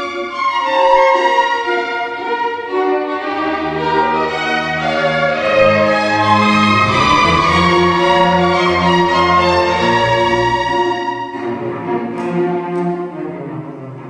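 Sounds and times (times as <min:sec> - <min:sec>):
violins playing held notes: 0:00.0 - 0:14.0
low strings: 0:02.6 - 0:14.0.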